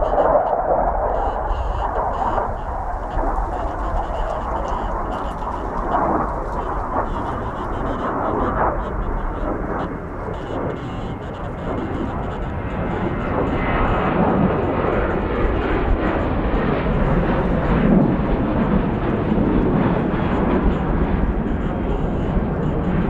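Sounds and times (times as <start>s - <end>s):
jet engines at takeoff thrust: 0.0s - 23.0s.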